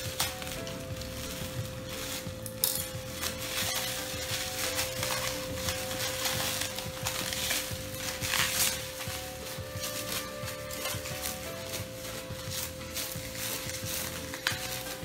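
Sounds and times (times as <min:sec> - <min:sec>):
bubble wrap crinkling: 0:00.0 - 0:15.0
faint background music: 0:00.0 - 0:15.0.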